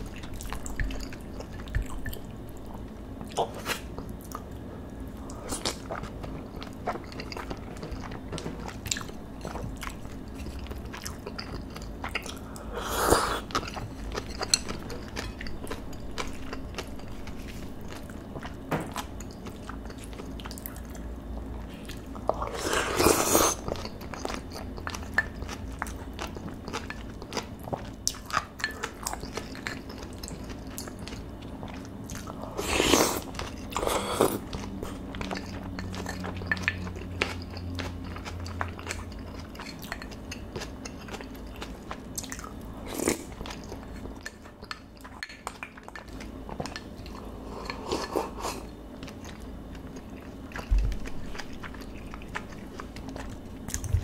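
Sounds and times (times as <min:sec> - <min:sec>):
close chewing mouth sounds: 0:00.0 - 0:54.0.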